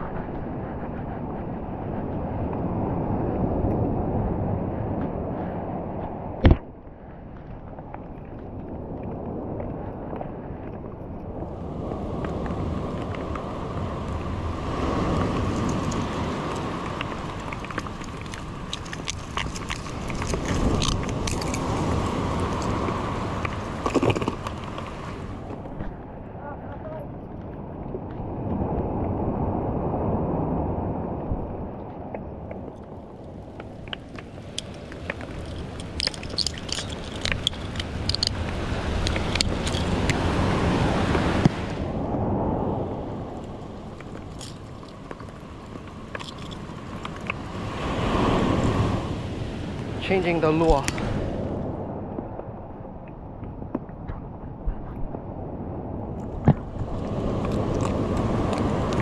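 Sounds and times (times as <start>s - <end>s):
wind buffeting microphone: 0.0s - 59.0s
surf washing: 8.3s - 53.7s, 54.3s - 59.0s.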